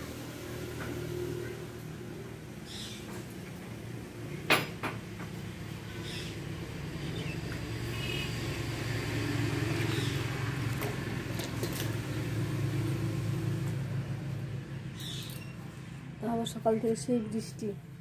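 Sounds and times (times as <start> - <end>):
vehicle engine low rumble: 0.0 - 18.0.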